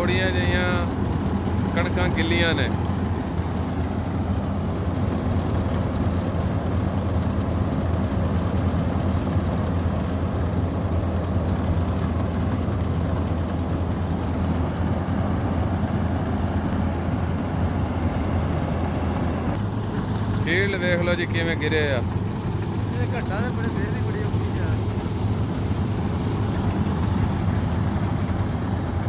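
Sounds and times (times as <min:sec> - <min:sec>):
combine harvester engine drone: 0:00.0 - 0:29.0
threshing machinery hum: 0:00.0 - 0:29.0.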